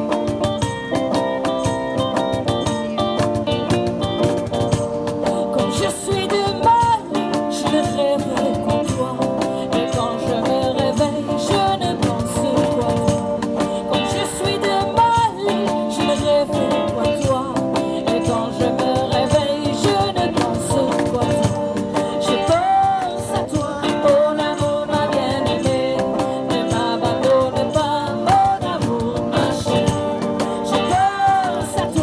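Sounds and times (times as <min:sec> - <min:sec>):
acoustic guitar: 0:00.0 - 0:32.0
cajon beat: 0:00.0 - 0:32.0
electric guitar: 0:00.0 - 0:32.0.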